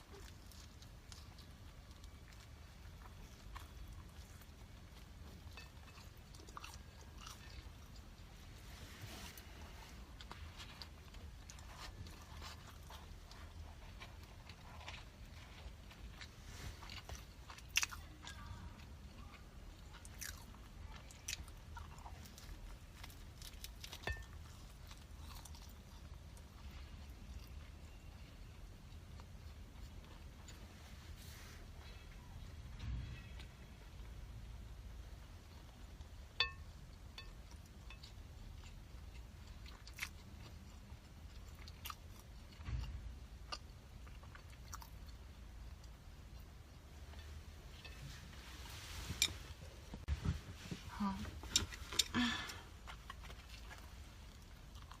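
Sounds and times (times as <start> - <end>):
crunchy chewing: 0.0 - 30.9, 35.4 - 48.0, 51.4 - 55.0.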